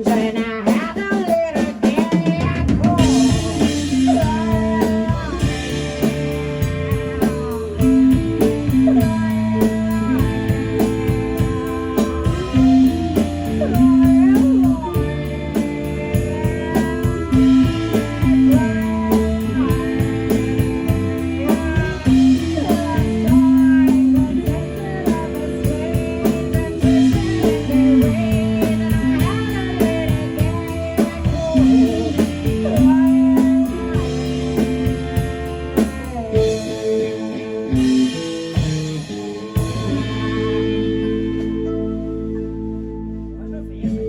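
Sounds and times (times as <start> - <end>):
drum kit beat: 0.0 - 43.1
bass guitar: 0.0 - 44.0
electric guitar: 0.0 - 44.0
person singing: 0.0 - 44.0.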